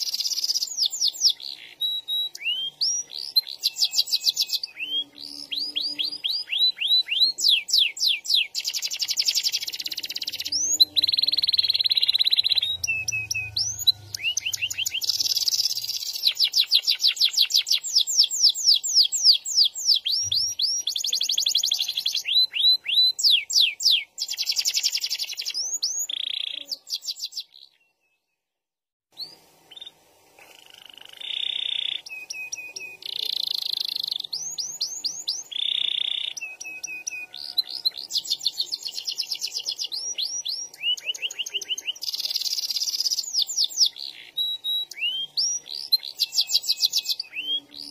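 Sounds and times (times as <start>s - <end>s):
canary singing trills: 0.0s - 28.2s, 29.1s - 47.9s.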